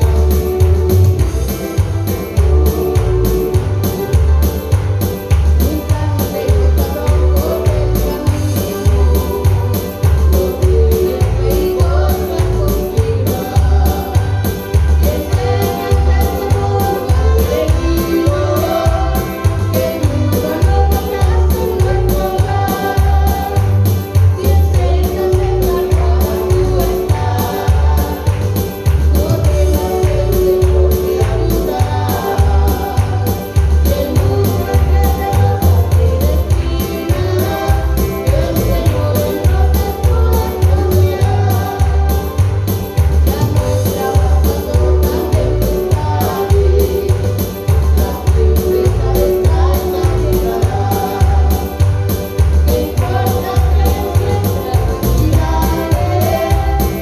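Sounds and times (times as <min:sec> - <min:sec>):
man and woman singing: 0:00.0 - 0:57.0
steady bass beat: 0:00.0 - 0:57.0.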